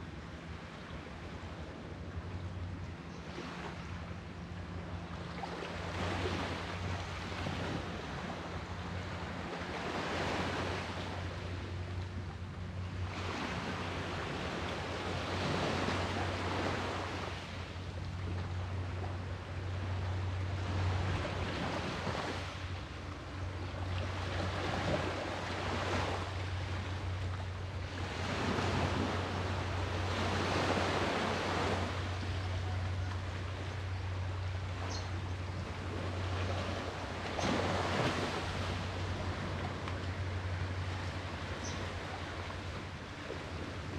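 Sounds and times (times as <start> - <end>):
steady low hum: 0.0 - 43.9
waves washing in and out: 0.0 - 43.9.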